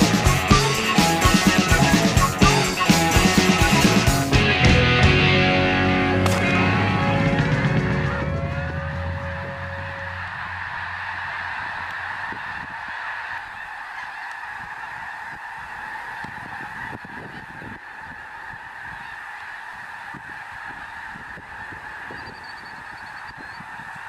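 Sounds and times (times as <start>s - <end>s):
flock of geese honking: 0.0s - 4.4s, 6.3s - 24.0s.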